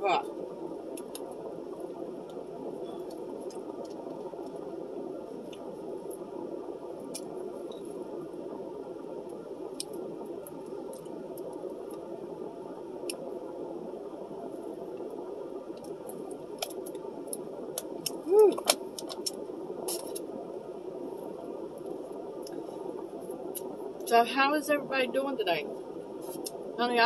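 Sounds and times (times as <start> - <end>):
low car cabin hum: 0.0 - 27.0.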